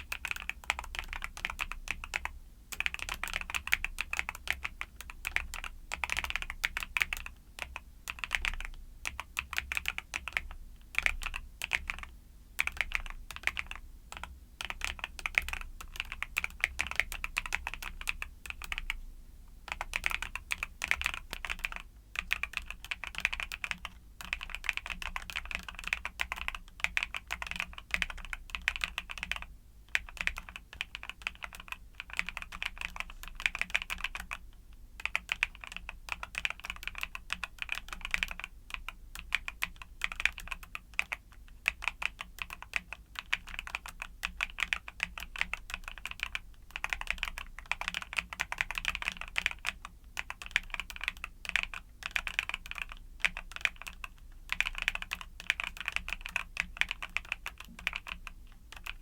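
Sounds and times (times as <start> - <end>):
mechanical keyboard typing: 0.0 - 19.0, 19.7 - 59.0.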